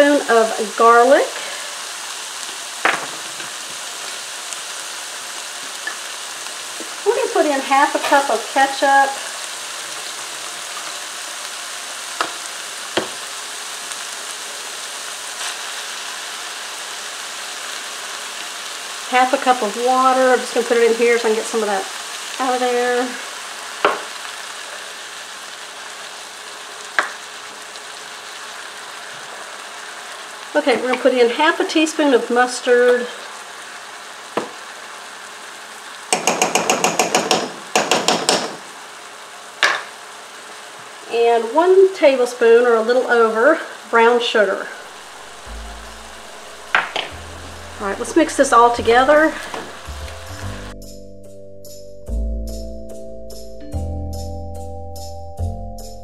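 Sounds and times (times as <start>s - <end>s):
meat and vegetables sizzling in skillet: 0.0s - 50.9s.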